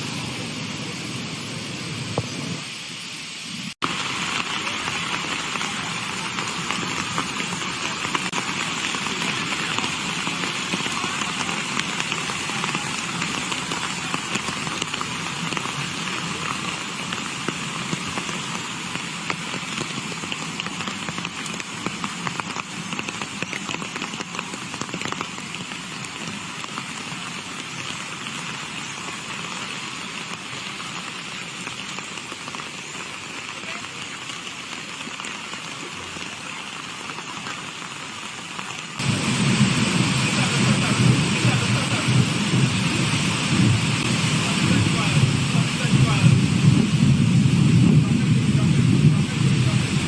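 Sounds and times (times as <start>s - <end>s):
heavy rain hissing: 0.0s - 50.0s.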